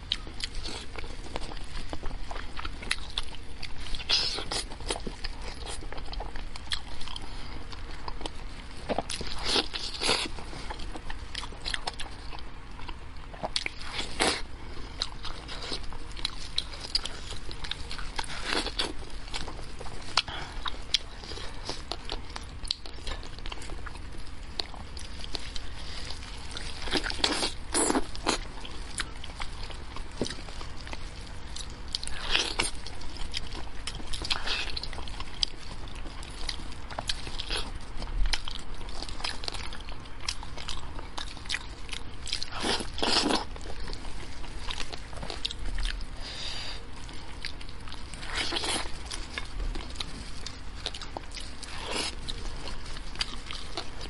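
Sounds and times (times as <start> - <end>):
wet chewing and biting: 0.0 - 46.2, 46.8 - 54.0.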